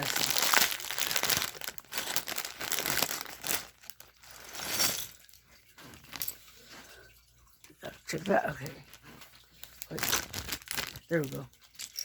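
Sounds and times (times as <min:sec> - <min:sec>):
plastic bag crinkling: 0:00.0 - 0:06.5, 0:08.2 - 0:12.0.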